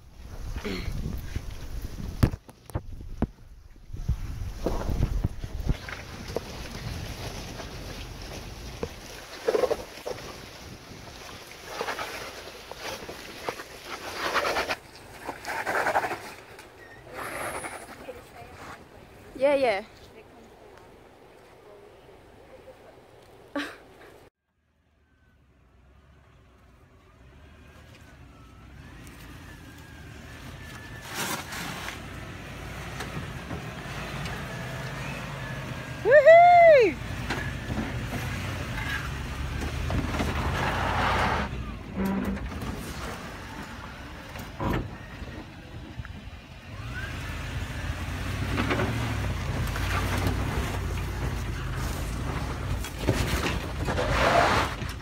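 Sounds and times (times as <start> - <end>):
vehicle engine at low speed: 0.0 - 23.5, 24.2 - 55.0.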